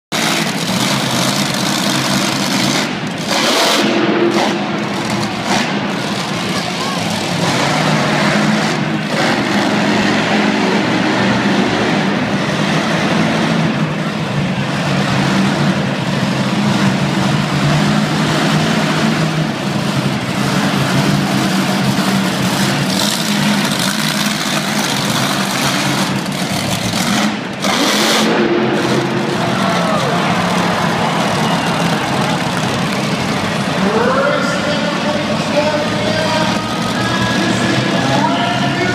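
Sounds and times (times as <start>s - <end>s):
monster truck engine running: 0.0s - 38.9s.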